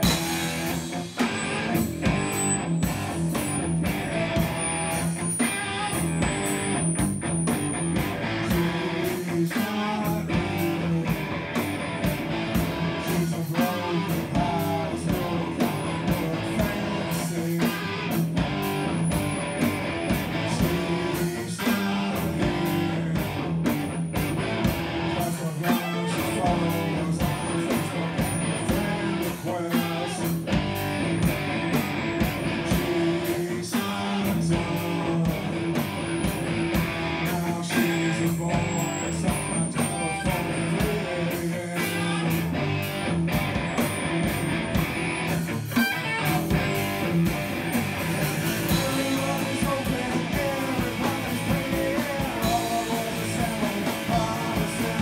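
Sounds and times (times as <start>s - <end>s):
drum kit beat: 0.0s - 55.0s
strummed electric guitar: 0.0s - 55.0s.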